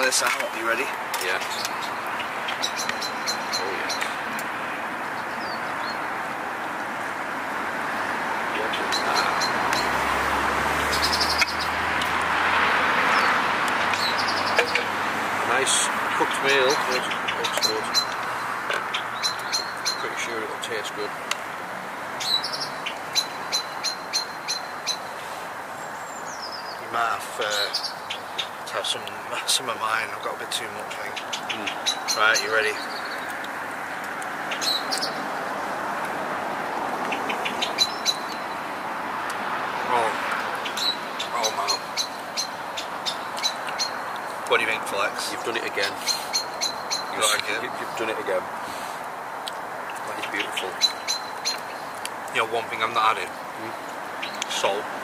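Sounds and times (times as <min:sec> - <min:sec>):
road traffic hum: 0:00.0 - 0:55.0
vehicle rumbling past: 0:00.8 - 0:28.9, 0:29.7 - 0:55.0.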